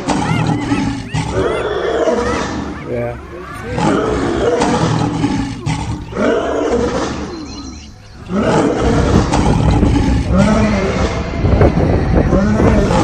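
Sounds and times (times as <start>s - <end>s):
horses squealing and screaming: 0.0s - 11.4s.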